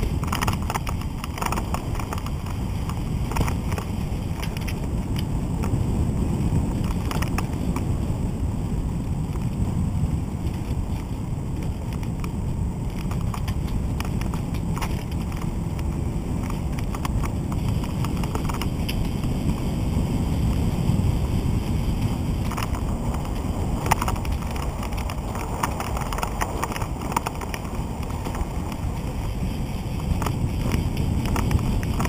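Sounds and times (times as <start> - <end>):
wheels clicking over seams: 0.0 - 32.0
wind buffeting microphone: 0.0 - 32.0.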